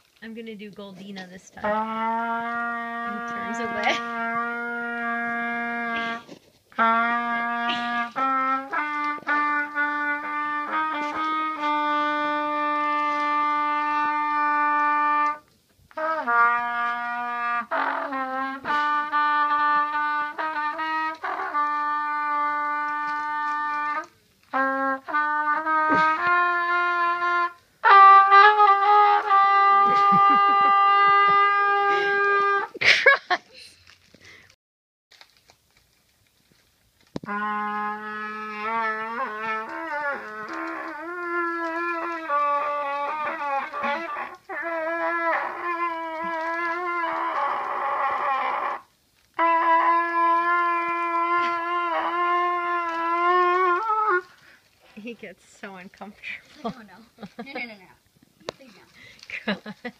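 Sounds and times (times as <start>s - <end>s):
trumpet playing slow tune: 1.6s - 32.8s, 36.6s - 55.8s.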